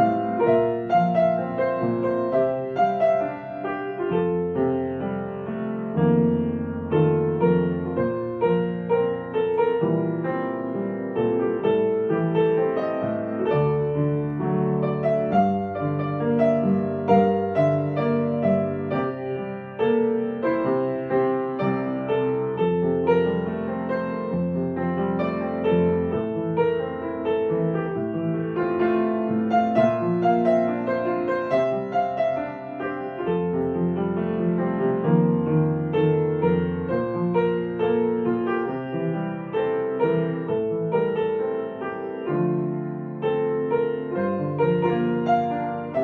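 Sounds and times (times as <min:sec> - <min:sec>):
gentle piano music: 0:00.0 - 0:46.0.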